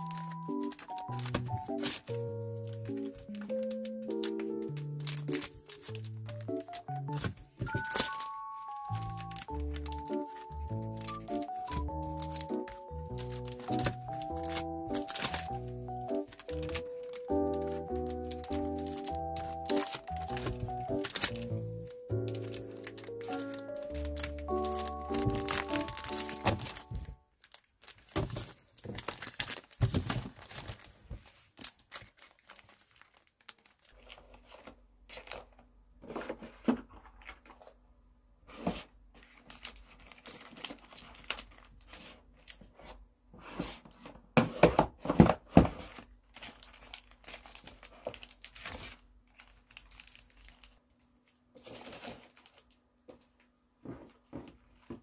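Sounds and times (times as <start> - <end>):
plastic sleeves crinkling: 0.0 - 37.8, 38.6 - 42.9, 45.6 - 52.8.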